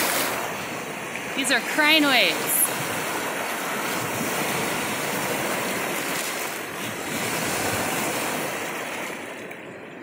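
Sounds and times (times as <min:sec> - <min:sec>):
waves washing over pebbles: 0:00.0 - 0:09.7.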